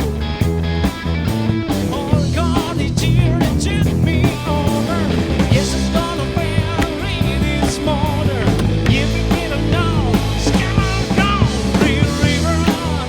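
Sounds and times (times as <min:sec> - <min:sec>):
bass: 0:00.0 - 0:13.0
guitar: 0:00.0 - 0:13.0
person singing: 0:01.8 - 0:13.0.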